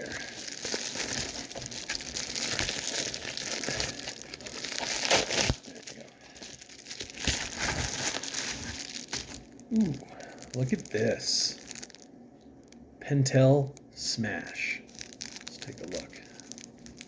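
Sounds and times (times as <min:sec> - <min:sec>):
packaging crinkling and tearing: 0:00.0 - 0:12.8, 0:14.2 - 0:17.0.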